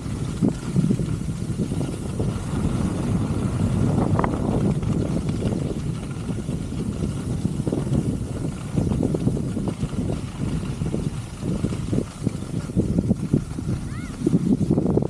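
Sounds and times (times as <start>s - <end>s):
skis running over snow: 0.0s - 15.0s
wind on microphone: 0.0s - 15.0s.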